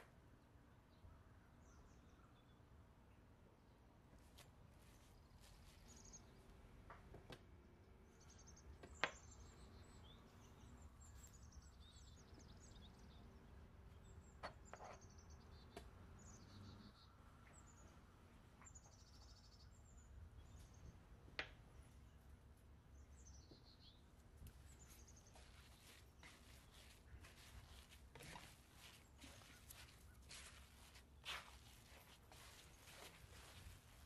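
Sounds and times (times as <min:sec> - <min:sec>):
small birds chirping: 0:00.6 - 0:34.0.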